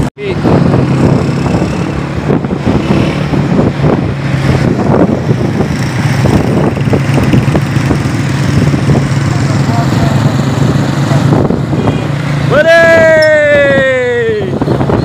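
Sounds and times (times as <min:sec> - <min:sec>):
street traffic: 0:00.0 - 0:15.0
wind buffeting microphone: 0:00.0 - 0:15.0.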